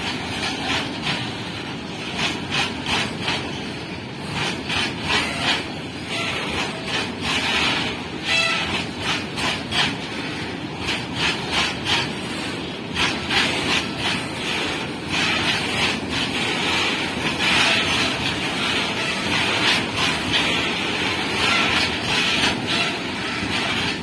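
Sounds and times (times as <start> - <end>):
train wheels rumbling on rail: 0.0 - 24.0
wheels clacking over track: 0.0 - 24.0.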